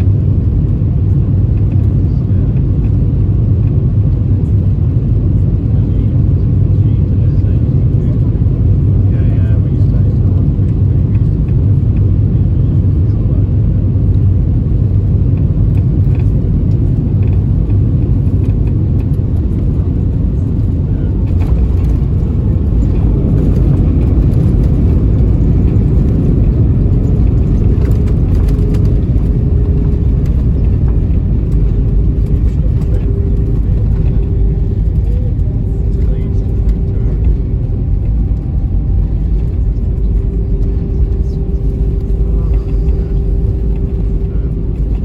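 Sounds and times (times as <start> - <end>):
aircraft cabin engine rumble: 0.0 - 45.0.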